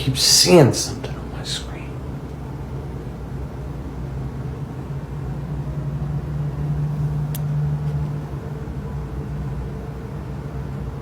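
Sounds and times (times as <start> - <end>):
low hum: 0.8 - 11.0.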